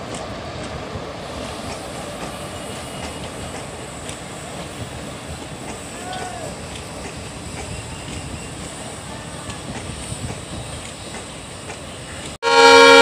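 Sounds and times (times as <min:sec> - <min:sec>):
wheels clicking over rail joints: 0:00.0 - 0:12.4
distant passenger train rumbling: 0:00.0 - 0:13.0.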